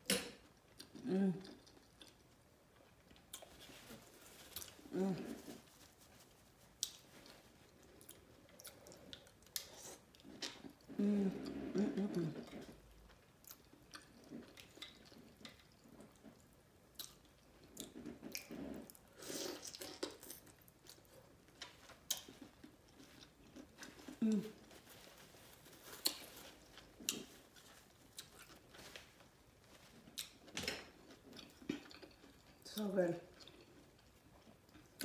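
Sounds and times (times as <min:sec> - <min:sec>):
chewing and wet mouth sounds: 0:00.3 - 0:35.0.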